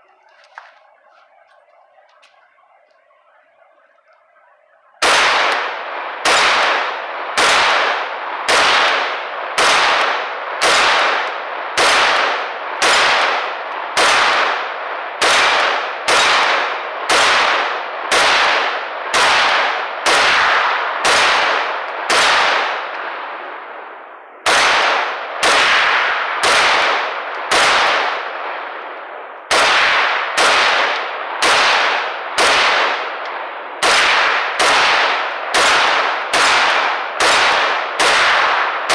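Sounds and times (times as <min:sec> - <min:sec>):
echoing gunshots: 0:04.4 - 0:38.9.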